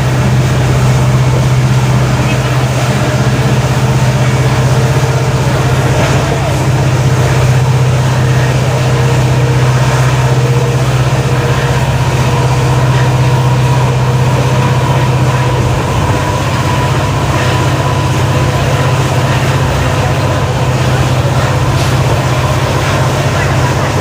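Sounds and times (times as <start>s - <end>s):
diesel locomotive engine hum: 0.0s - 24.0s.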